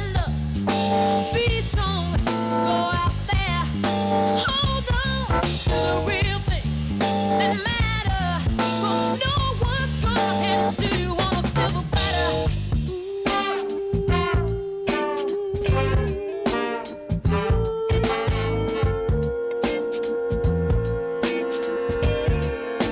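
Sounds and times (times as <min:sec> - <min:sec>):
rock music with guitar and drums: 0:00.0 - 0:22.9.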